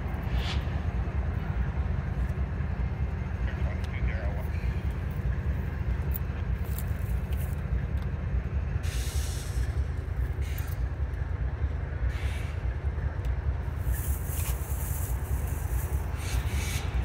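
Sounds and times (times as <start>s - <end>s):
distant diesel locomotive rumble: 0.0s - 17.0s.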